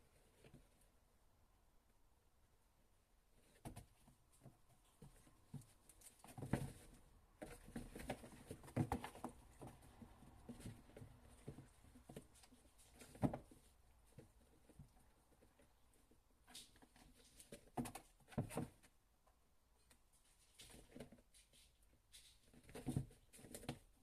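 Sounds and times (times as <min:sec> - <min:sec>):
kittens' paws pattering: 0:03.3 - 0:19.0, 0:19.8 - 0:24.0
light taps and rustles: 0:03.4 - 0:18.9, 0:20.2 - 0:24.0.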